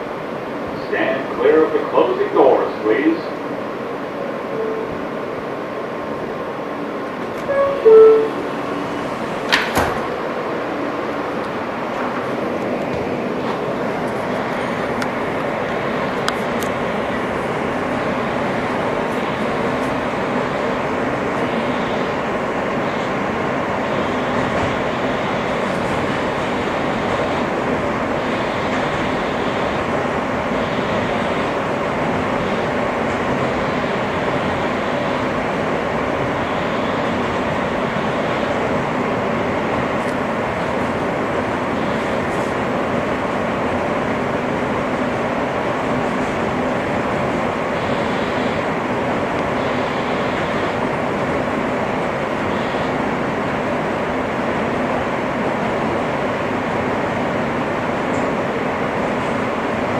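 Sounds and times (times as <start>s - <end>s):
subway wheels on rails: 0.0s - 59.9s.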